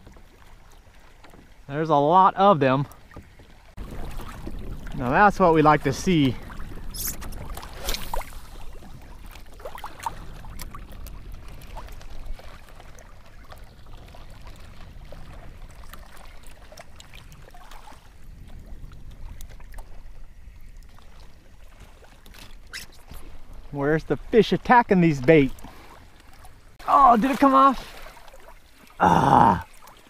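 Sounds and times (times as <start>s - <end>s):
water lapping against kayak hull: 0.0s - 30.0s.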